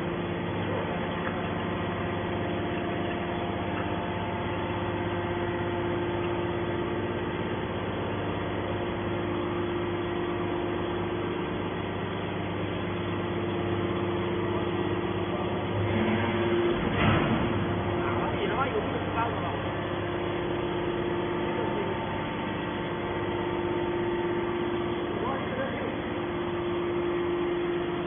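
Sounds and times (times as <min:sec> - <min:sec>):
scrap baler machine hum: 0:00.0 - 0:28.0.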